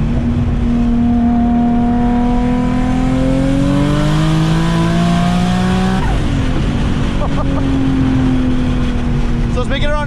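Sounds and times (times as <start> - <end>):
car engine accelerating: 0.0 - 9.9.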